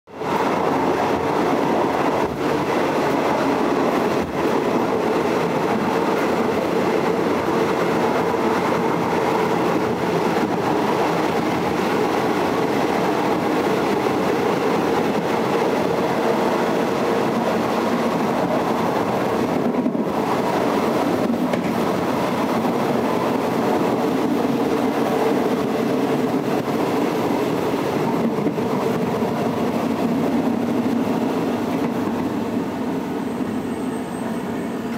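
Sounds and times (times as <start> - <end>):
train wheels rumbling and rattling: 0.2 - 34.9.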